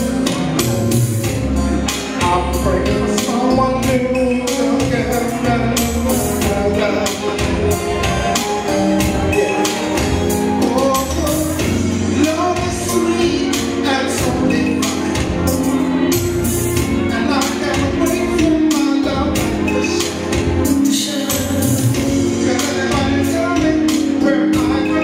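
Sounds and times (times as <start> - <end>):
music with a steady beat: 0.0 - 25.0
man singing into a microphone: 1.3 - 25.0.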